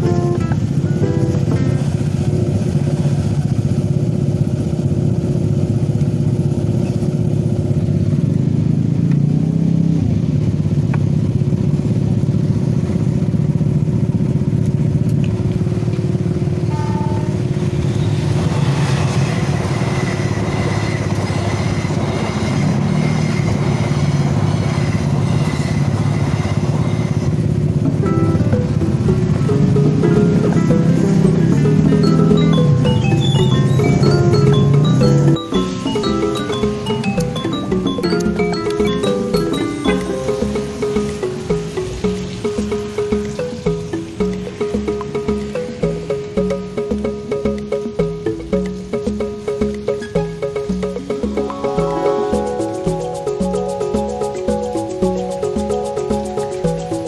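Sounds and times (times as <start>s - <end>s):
vehicle engines running: 0.0s - 57.0s.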